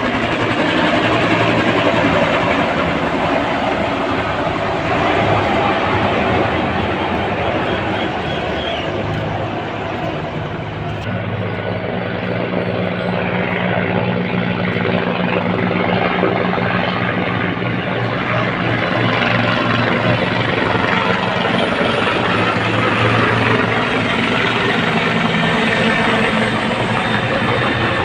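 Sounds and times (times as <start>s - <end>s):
helicopters flying past: 0.0s - 28.0s.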